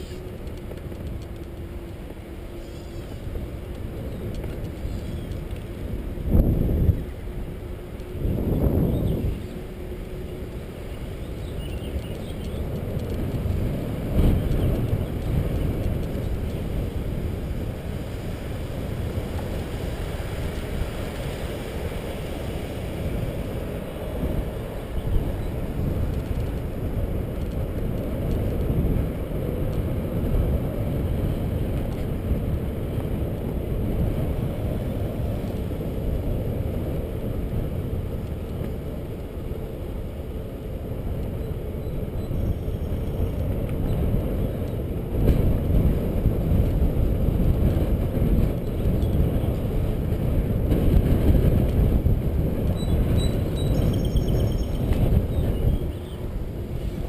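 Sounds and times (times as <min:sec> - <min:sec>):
wind noise on microphone: 0:00.0 - 0:57.0.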